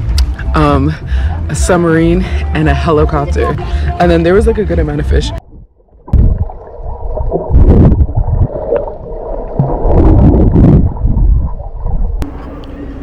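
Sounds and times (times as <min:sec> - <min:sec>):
muffled underwater gurgling: 0:00.4 - 0:13.0.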